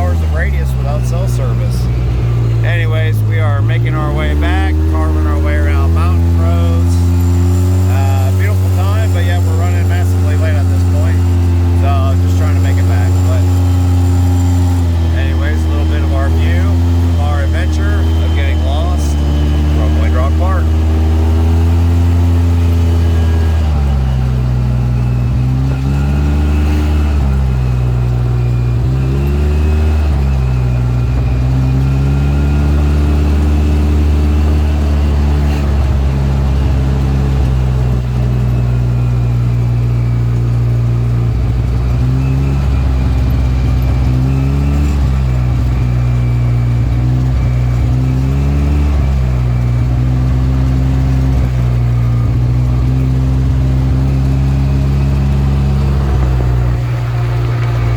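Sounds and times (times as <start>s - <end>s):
low road drone: 0.0s - 57.9s
vehicle engine running: 0.0s - 57.9s.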